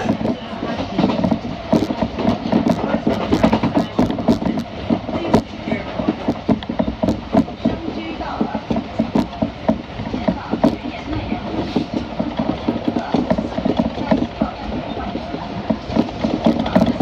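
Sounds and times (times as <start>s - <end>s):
train wheels rumbling: 0.0s - 17.0s
wheels clacking over rail joints: 0.0s - 17.0s.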